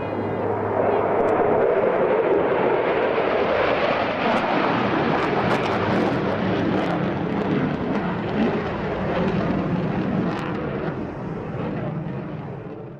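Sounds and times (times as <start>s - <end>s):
jet engine roar with crackles: 0.0s - 12.9s.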